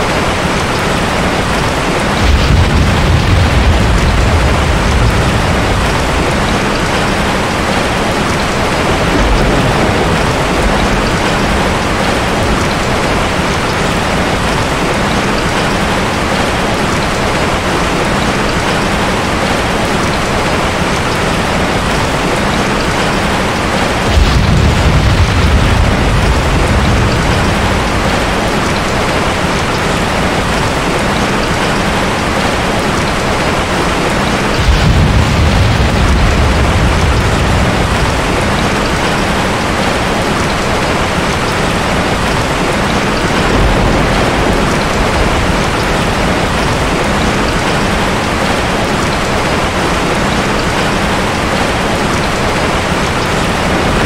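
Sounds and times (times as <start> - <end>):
heavy rain: 0.0 - 54.0
thunder rumbling: 0.0 - 54.0.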